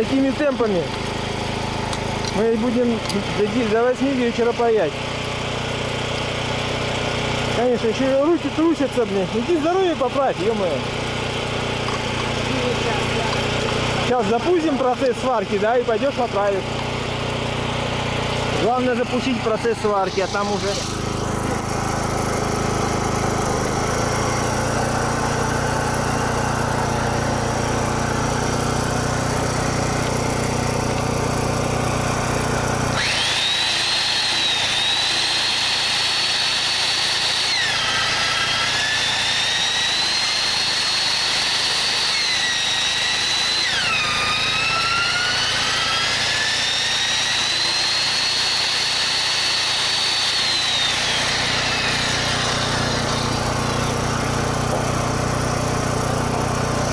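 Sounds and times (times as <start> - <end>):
power tool motor whine: 0.0 - 56.9
small engine running: 0.0 - 56.9.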